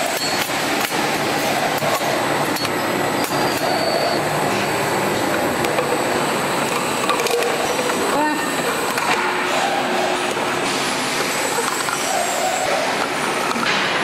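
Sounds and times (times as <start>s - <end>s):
capping machine whirring: 0.0s - 14.0s.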